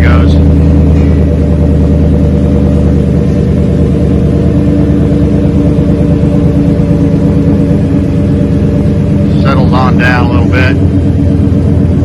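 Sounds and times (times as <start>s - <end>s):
deep engine exhaust rumble: 0.0s - 12.0s.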